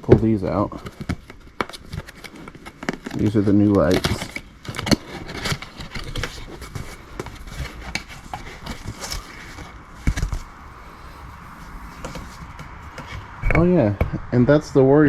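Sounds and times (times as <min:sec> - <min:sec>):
plastic parts clicking and scraping: 0:00.8 - 0:13.2.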